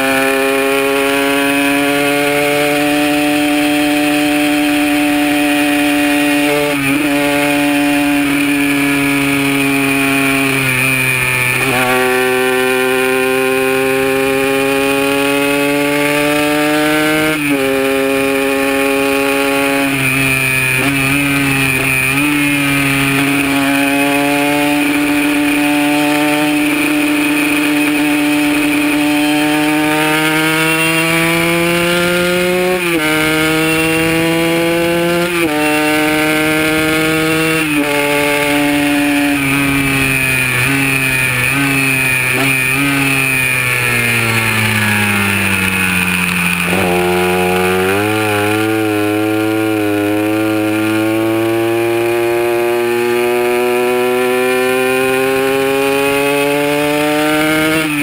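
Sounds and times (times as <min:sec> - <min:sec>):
motorcycle engine at full throttle: 0:00.0 - 0:58.0.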